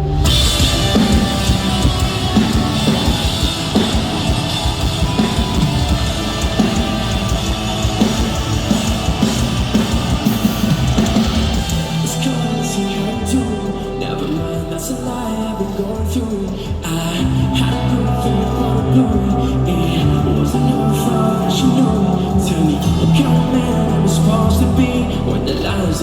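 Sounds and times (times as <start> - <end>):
fast driving drum kit: 0.0 - 15.0, 15.8 - 26.0
bass guitar: 0.0 - 26.0
distorted electric guitars: 0.0 - 26.0.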